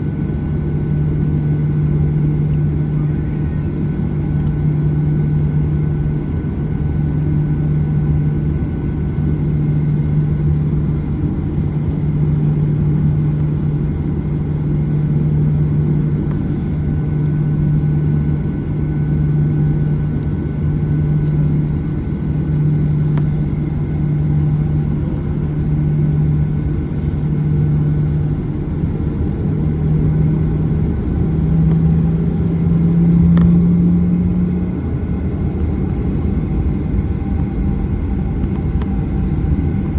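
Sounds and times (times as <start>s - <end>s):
jet engine cabin noise: 0.0s - 39.9s
steady hum: 0.0s - 39.9s.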